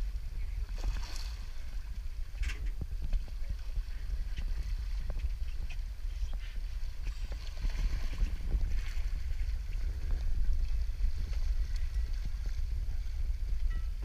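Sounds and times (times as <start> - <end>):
water splashing: 0.0 - 6.0, 6.6 - 13.3
wind buffeting microphone: 0.0 - 14.0.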